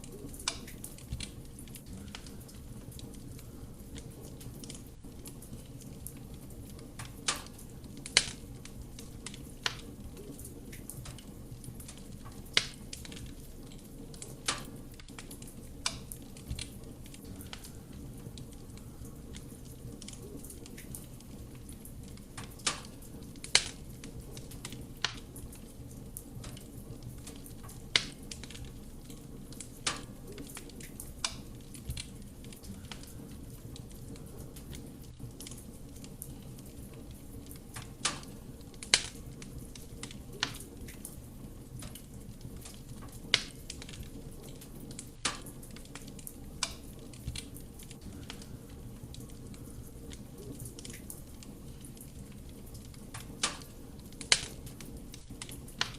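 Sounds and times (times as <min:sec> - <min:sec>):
wood crackling and popping: 0:00.0 - 0:55.9
flames rushing: 0:00.3 - 0:55.9.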